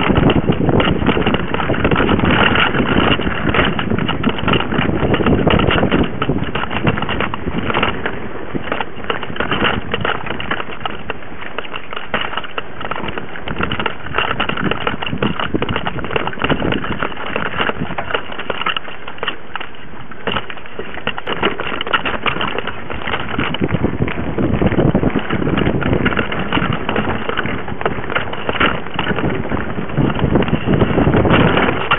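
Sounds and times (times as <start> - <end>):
bike rattling over bumps: 0.0 - 31.9
tyres crunching on dirt: 0.0 - 31.9.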